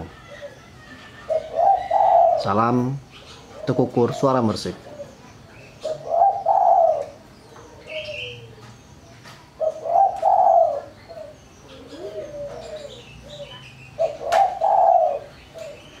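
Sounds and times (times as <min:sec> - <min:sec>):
dove cooing: 0:00.0 - 0:16.0
soft low dove calls: 0:01.3 - 0:16.0.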